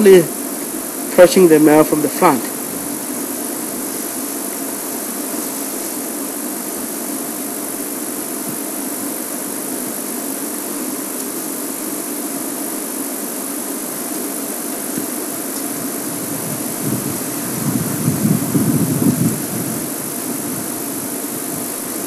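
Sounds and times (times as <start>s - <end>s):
even hiss: 0.0s - 22.0s.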